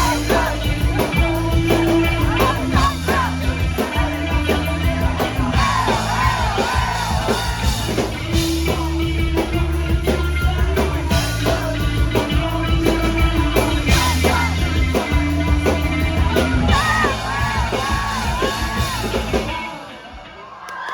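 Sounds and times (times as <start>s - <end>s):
person singing: 0.0s - 20.0s
live rock band playing: 0.0s - 20.2s.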